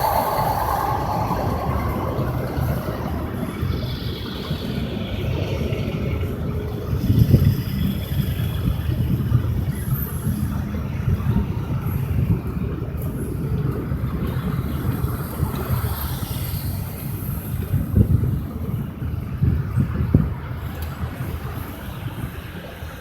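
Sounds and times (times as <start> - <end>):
highway traffic rumble: 0.0 - 23.0.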